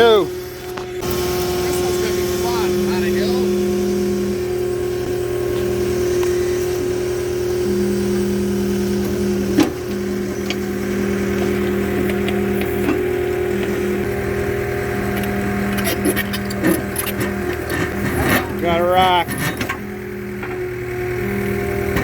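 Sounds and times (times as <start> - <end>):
post hole digger engine running: 0.0 - 22.0.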